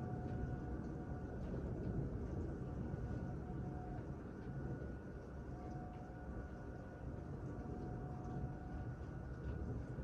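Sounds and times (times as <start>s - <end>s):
distant tornado siren: 0.0s - 10.0s
thunderstorm rumble: 0.0s - 10.0s.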